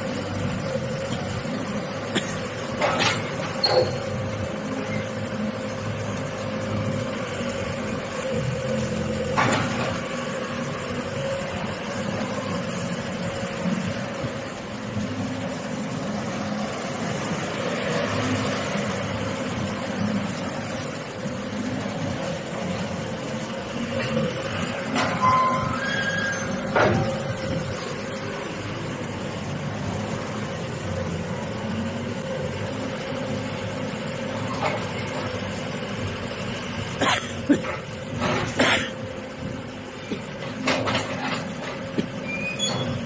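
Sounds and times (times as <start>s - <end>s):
continuous whine: 0.0s - 43.0s
diesel engine running: 0.0s - 43.0s.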